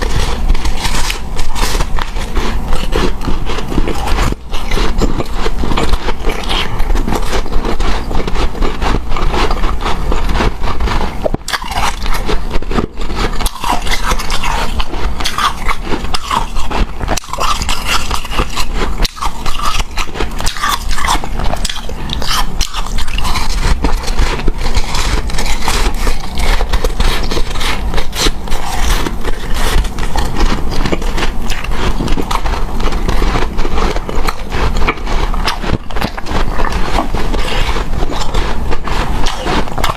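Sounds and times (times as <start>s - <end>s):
crunching ice being eaten: 0.0s - 39.9s.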